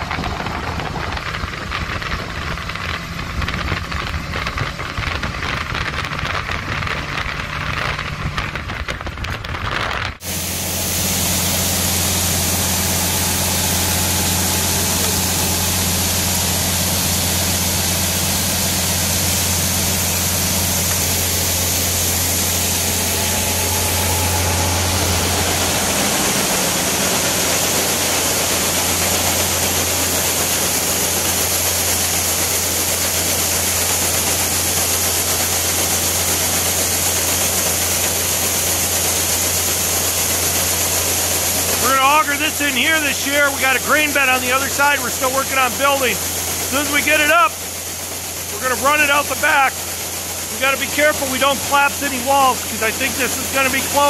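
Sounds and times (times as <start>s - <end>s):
engine running steadily: 0.0s - 54.0s
constant hiss: 10.2s - 54.0s.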